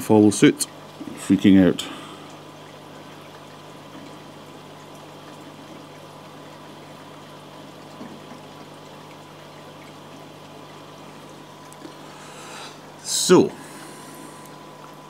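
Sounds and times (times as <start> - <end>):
aquarium water trickling: 0.0 - 15.0
low steady hum: 0.0 - 15.0.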